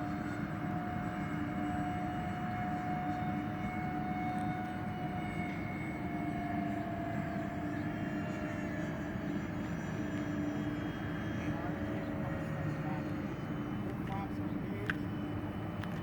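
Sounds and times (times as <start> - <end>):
model airplane fan motor whine: 0.0 - 16.0.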